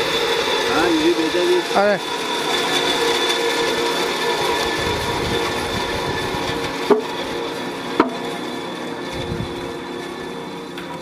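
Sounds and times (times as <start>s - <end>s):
machine noise with high whine: 0.0s - 11.0s.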